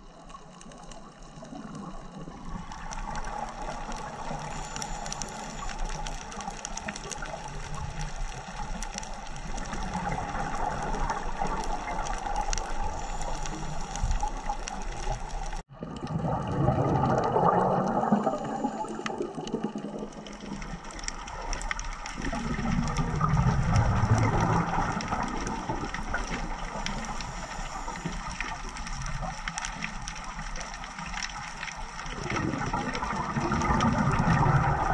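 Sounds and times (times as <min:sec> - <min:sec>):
bubbles gurgling: 0:00.0 - 0:34.9.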